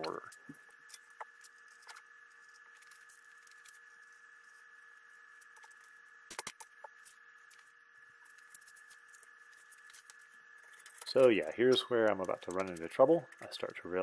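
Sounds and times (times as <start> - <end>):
thin high whine: 0.0 - 14.0.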